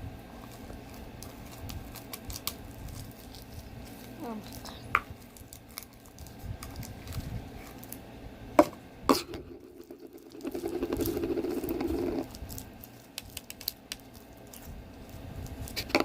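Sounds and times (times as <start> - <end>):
slime squishing: 0.2 - 8.0, 9.1 - 16.0.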